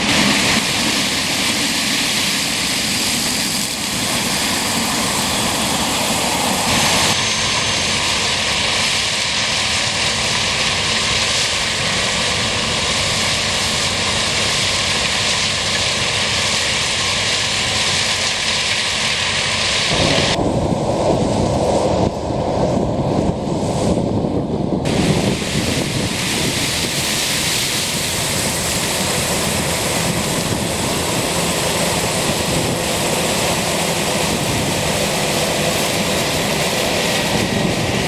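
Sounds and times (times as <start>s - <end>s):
combine harvester running: 0.0s - 38.0s.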